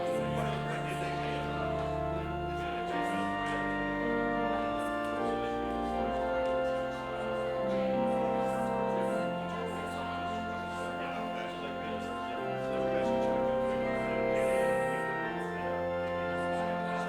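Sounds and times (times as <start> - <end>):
church organ chords: 0.0 - 17.0.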